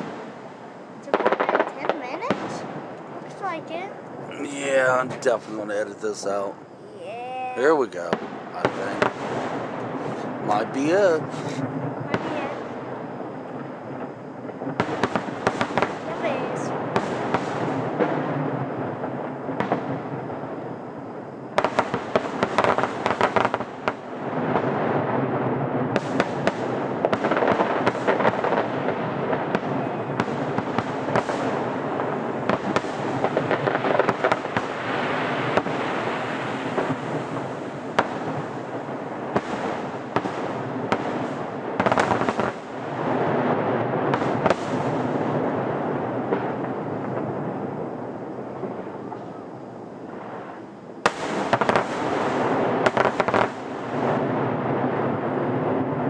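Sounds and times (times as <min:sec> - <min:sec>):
fireworks crackling: 0:00.0 - 0:56.0
fireworks cracks and booms: 0:00.0 - 0:56.0.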